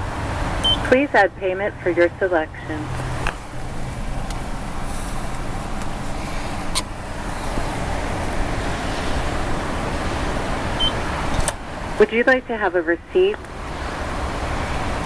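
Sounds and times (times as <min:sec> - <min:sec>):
low engine hum: 0:00.0 - 0:15.0
traffic noise: 0:00.0 - 0:15.0.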